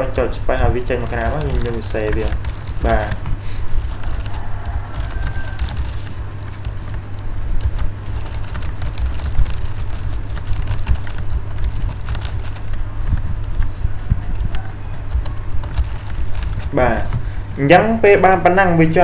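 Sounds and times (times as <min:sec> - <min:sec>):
low electrical hum: 0:00.0 - 0:19.0
keyboard typing clicks: 0:00.8 - 0:13.8, 0:14.4 - 0:16.8.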